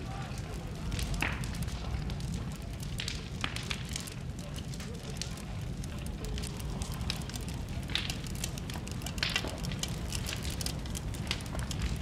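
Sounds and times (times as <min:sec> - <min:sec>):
fire crackling and popping: 0:00.0 - 0:12.0
fire rumbling: 0:00.0 - 0:12.0.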